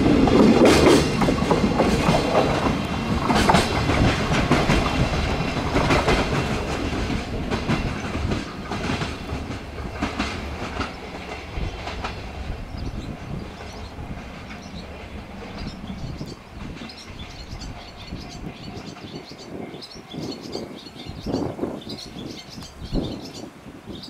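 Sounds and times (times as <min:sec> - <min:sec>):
train wagons clattering over rail joints: 0:00.0 - 0:20.6.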